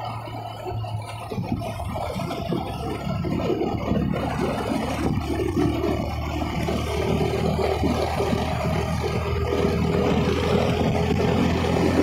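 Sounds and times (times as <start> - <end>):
motorcycle engine running: 0.0 - 12.0
road noise: 0.0 - 12.0
wind buffeting microphone: 0.0 - 12.0.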